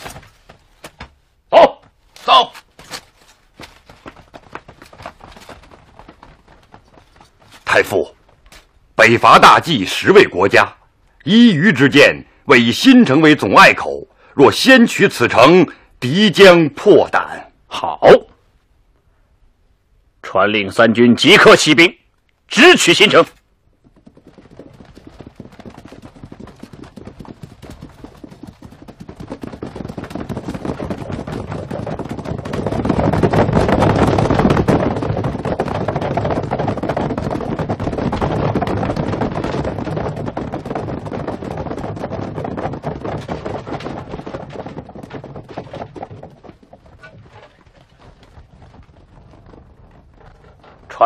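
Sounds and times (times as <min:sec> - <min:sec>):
rapid clatter of marching army: 0:00.0 - 0:01.2, 0:01.8 - 0:13.9, 0:22.5 - 0:51.0.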